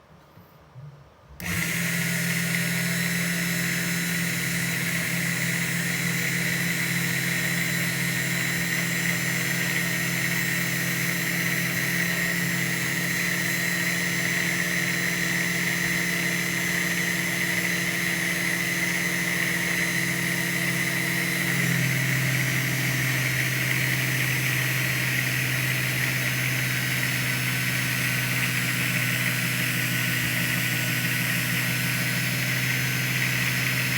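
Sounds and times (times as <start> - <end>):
small electric motor whining: 1.4 - 33.9.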